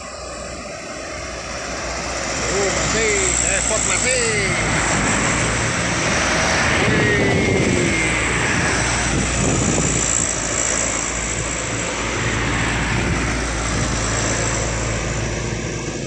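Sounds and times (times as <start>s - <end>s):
diesel truck engines droning: 0.0s - 16.0s.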